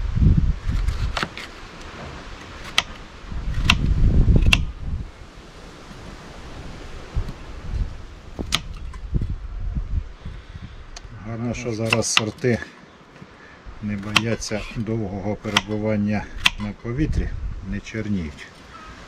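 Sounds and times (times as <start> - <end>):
wind rumble on microphone: 0.0 - 11.7, 13.7 - 18.3.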